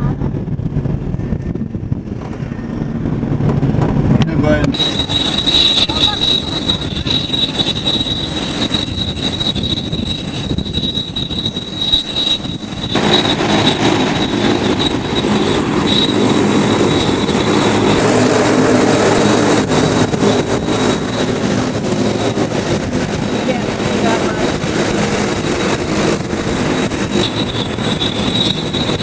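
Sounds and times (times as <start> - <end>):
jet engine rumble and rush: 0.0 - 29.0
jet engine whine: 0.0 - 29.0.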